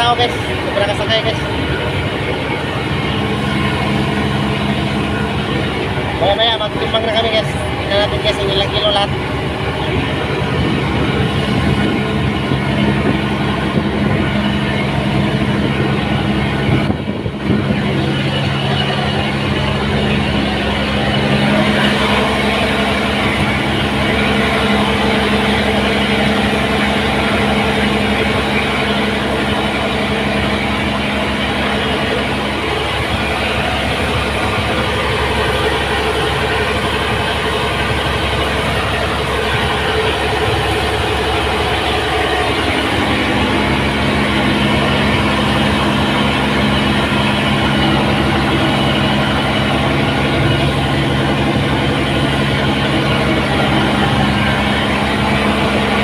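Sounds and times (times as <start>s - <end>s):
heavy engine droning: 0.0s - 56.0s
higher hum: 0.0s - 56.0s.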